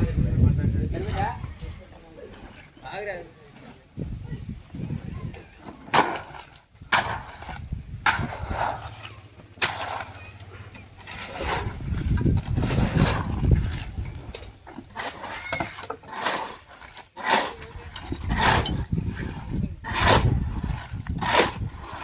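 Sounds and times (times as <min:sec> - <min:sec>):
rasping scraping strokes: 0:00.8 - 0:22.0.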